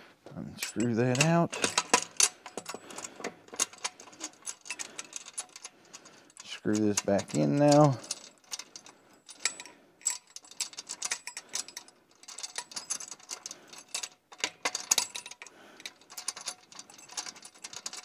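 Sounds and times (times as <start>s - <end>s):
screw threading metallic clicks: 0.6s - 18.0s.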